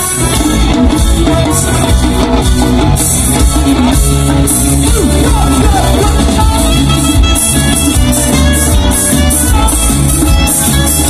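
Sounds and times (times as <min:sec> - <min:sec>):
reggae band playing: 0:00.0 - 0:11.0.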